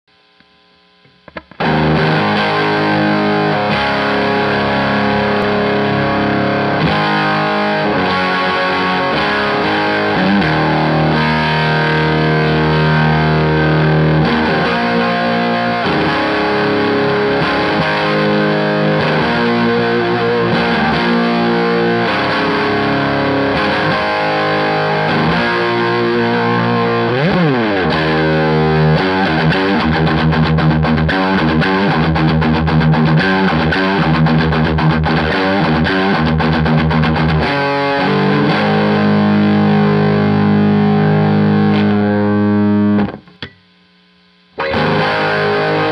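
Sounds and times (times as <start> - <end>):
electric guitar rock chords: 0.9 - 43.8, 44.5 - 45.9.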